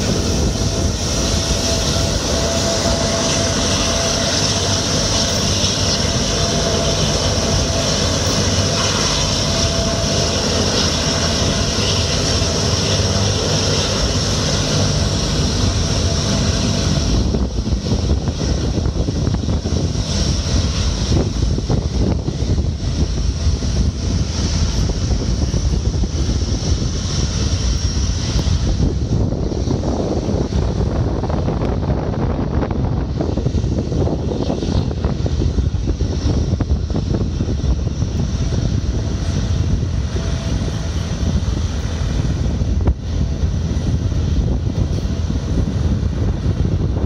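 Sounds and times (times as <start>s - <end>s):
turboprop engines whining: 0.0s - 47.0s
wind buffeting microphone: 0.0s - 47.0s.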